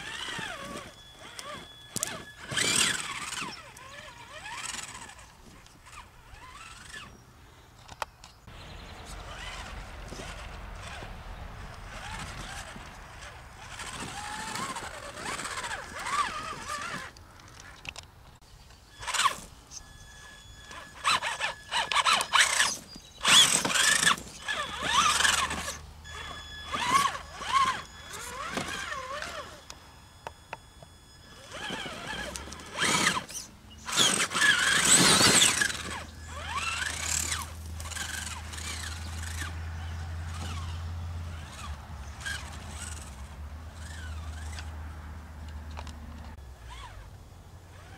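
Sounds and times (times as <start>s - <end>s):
electric motor whining: 0.0s - 7.3s, 8.4s - 18.0s, 18.7s - 47.9s.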